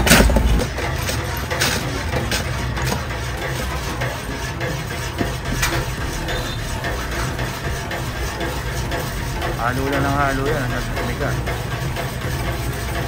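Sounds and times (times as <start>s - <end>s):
mixture stirred with scraping clinks: 0.0s - 13.0s
street traffic hum: 0.0s - 13.0s.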